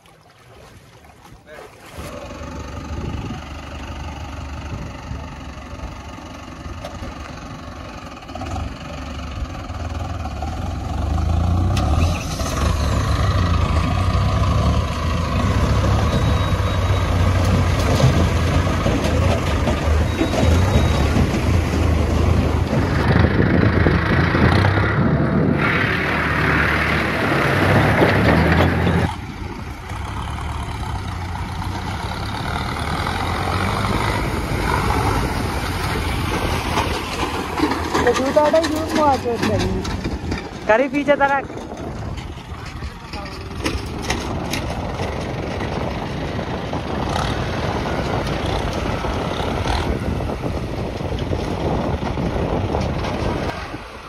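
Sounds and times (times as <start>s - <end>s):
water churning around wheels: 0.0s - 54.0s
tractor diesel engine running: 2.1s - 54.0s.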